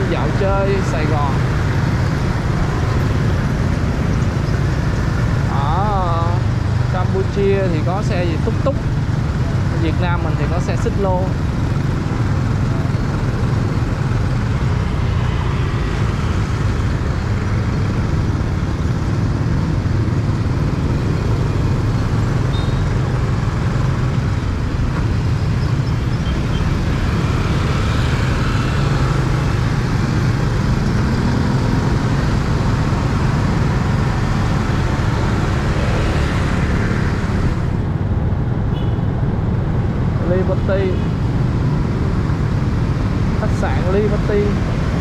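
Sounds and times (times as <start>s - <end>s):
city street traffic: 0.0s - 45.0s.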